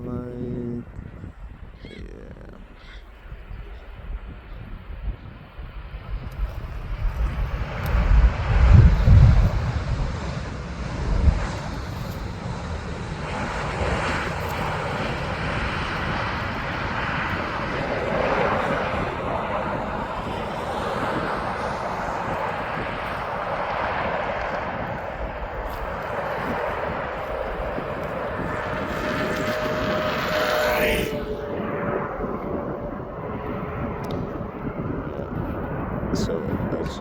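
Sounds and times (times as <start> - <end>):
jet airliner engines: 0.0 - 37.0
wind buffeting microphone: 0.0 - 37.0.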